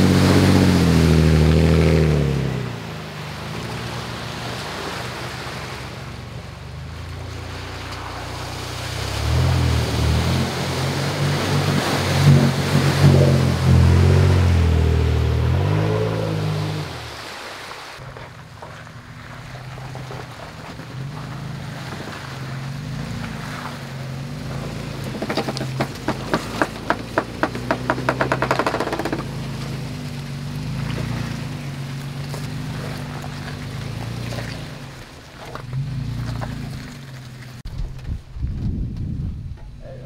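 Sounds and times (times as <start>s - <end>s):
engine running at low revs: 0.0s - 40.0s.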